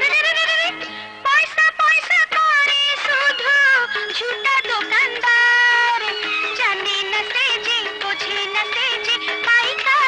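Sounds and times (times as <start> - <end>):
old film song music: 0.0 - 10.0.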